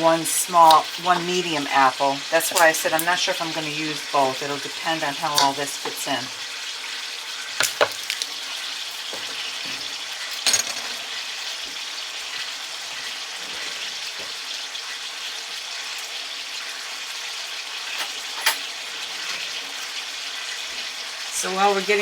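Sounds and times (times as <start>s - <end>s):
chicken sizzling in pan: 0.0s - 22.0s.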